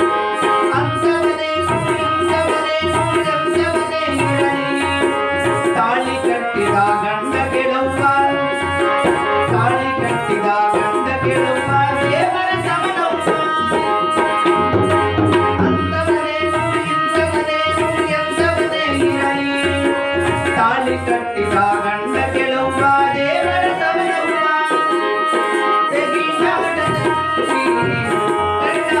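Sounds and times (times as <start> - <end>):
hand drum rhythm: 0.0 - 29.0
harmonium melody: 0.0 - 29.0
person singing: 0.0 - 29.0.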